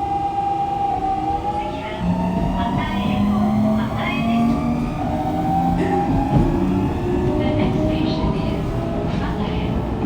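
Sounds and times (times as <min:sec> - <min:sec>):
train inverter whining: 0:00.0 - 0:10.0
train running gear rumble: 0:01.8 - 0:10.0.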